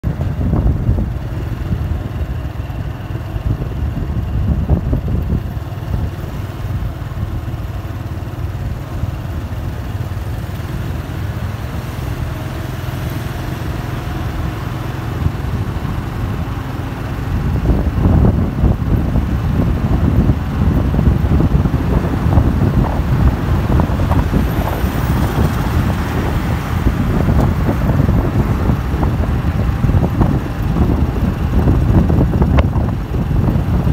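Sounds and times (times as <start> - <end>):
wind buffeting microphone: 0.0 - 8.7, 10.1 - 33.9
vehicle road and wind noise: 0.0 - 33.9.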